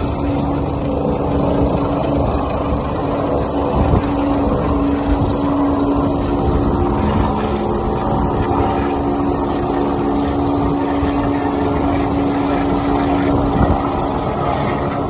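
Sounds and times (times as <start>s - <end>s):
helicopter turbine and rotor noise: 0.0s - 15.0s.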